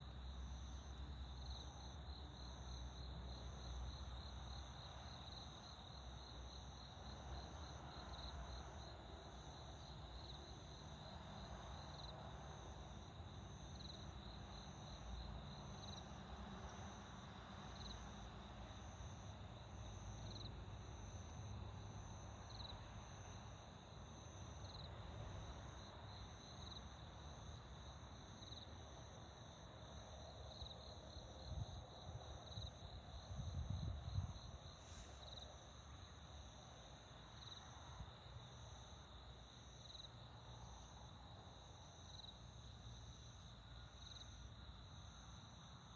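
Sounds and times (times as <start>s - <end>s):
insects chirping: 0.2s - 19.2s, 19.8s - 21.2s, 22.0s - 45.9s.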